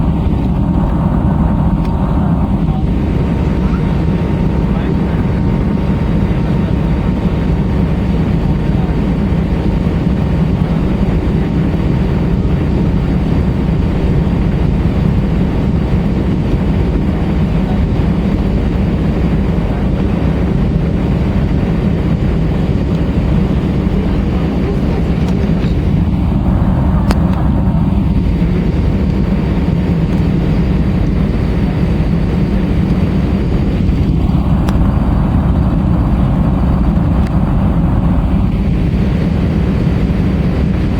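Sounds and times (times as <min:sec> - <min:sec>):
jet engines droning: 0:00.0 - 0:40.9
rushing air: 0:00.0 - 0:40.9.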